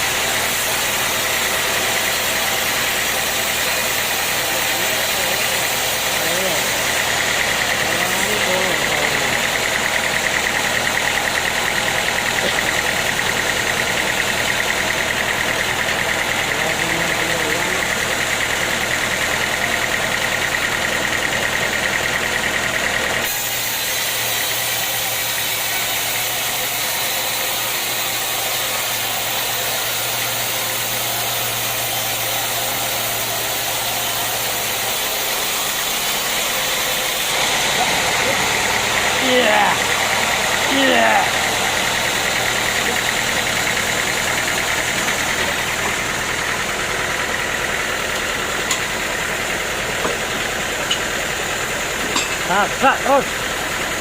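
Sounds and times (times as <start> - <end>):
hissing machinery: 0.0 - 18.7, 23.2 - 51.1
saw whining: 0.0 - 54.0.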